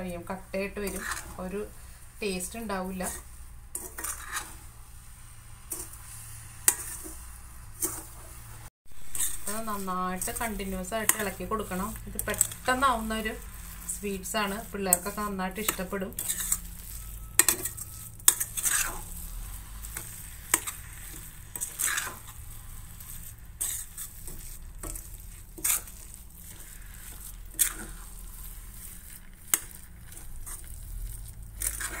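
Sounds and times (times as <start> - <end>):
utensil scraping a pan: 0.6 - 32.0.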